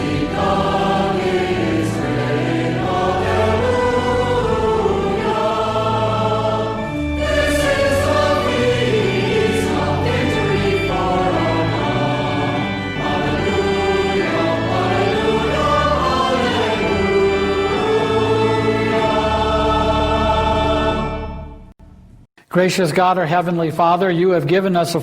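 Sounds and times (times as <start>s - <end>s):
choir singing a hymn: 0.0s - 21.4s.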